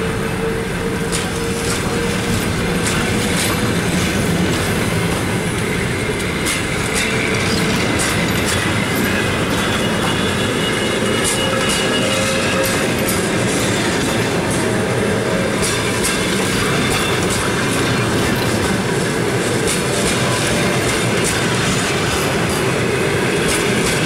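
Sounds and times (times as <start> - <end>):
train wheels rumbling on rails: 0.0 - 24.0
clacks over rail joints: 1.0 - 24.0.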